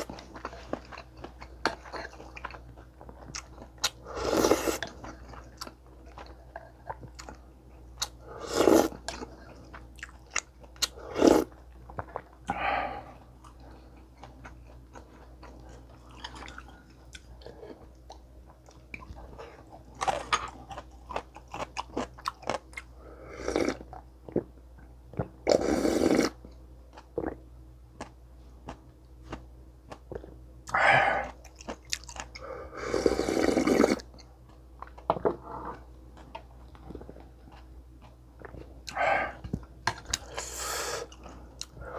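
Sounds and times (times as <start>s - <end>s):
chewing and crunching: 0.0s - 27.4s, 28.0s - 41.9s.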